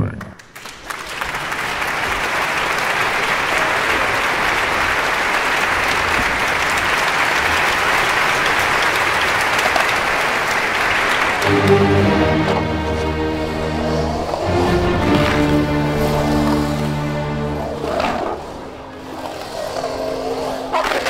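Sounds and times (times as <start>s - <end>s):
crowd applause: 0.4s - 21.0s
music: 1.8s - 21.0s.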